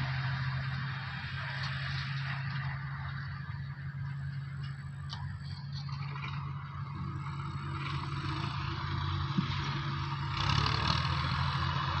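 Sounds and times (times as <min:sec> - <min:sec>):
tractor engine hum: 0:00.0 - 0:12.0.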